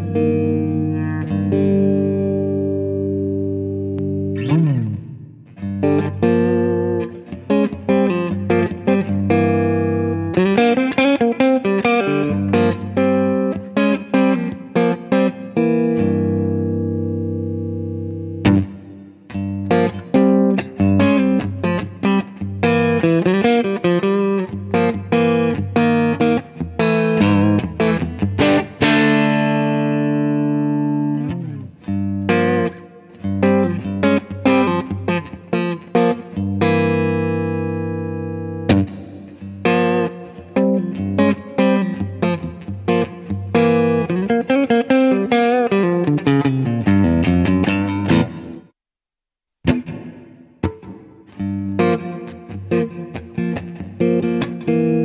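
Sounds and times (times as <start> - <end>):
electric guitar with reverb: 0.0 - 48.8, 49.6 - 55.0.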